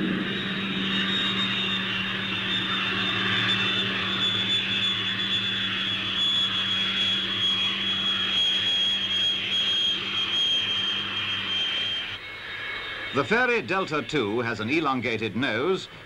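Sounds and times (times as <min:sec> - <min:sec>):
jet engine whining: 0:00.0 - 0:16.0.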